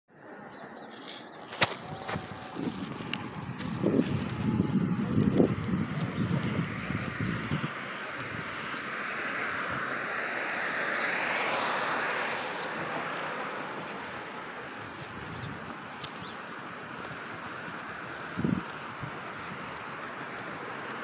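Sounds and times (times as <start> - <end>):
vehicle passing: 1.0 - 21.0.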